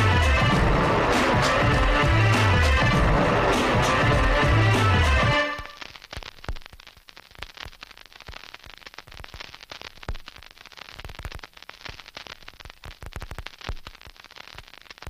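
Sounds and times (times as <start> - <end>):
crackling static: 0.0 - 15.0.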